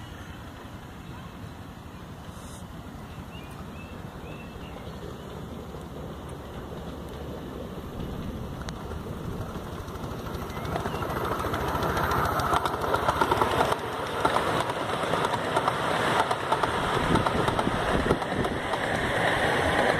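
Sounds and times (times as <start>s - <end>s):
miniature train passing: 0.0s - 19.9s.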